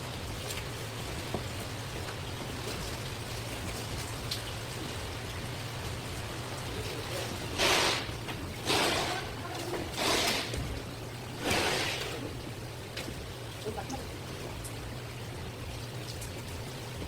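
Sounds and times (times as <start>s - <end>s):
water splashing with hiss: 0.0s - 17.0s.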